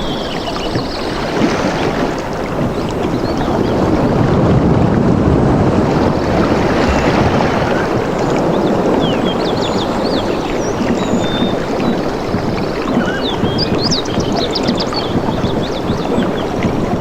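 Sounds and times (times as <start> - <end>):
birds chirping: 0.0 - 4.2, 5.8 - 16.9
water rushing: 0.0 - 17.0.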